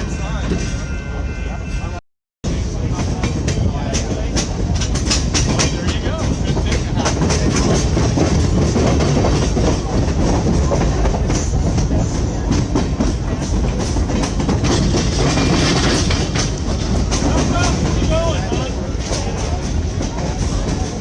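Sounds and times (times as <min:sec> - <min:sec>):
train rumble: 0:00.0 - 0:21.0
train wheels clacking on rail joints: 0:02.6 - 0:21.0.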